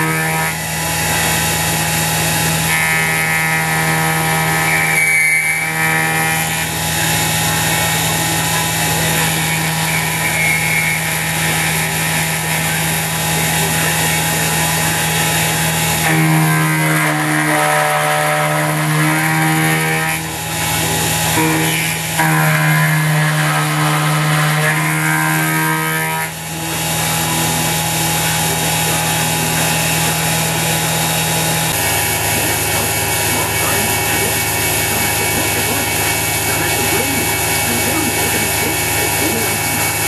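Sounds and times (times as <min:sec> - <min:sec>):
machine whine: 0:00.0 - 0:40.0
milling machine motor humming: 0:00.0 - 0:40.0.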